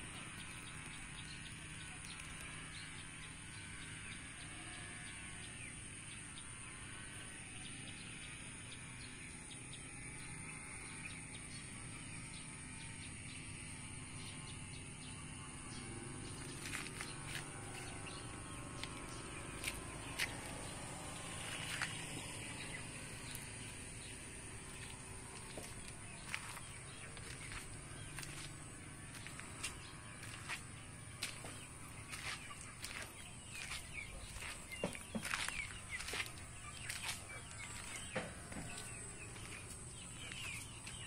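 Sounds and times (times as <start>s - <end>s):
birds chirping: 0.0s - 6.5s, 7.6s - 41.0s
steady high-pitched hum: 0.0s - 41.0s.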